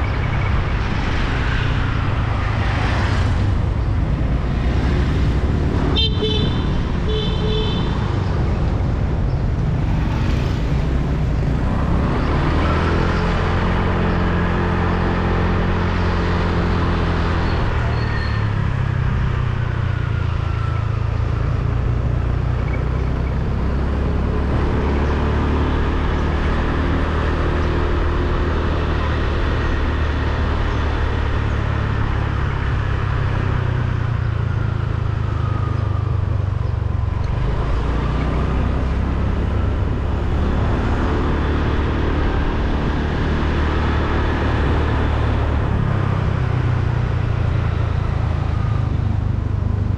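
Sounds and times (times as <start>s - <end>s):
surrounding traffic: 0.0s - 49.9s
wind and road noise: 0.0s - 49.9s.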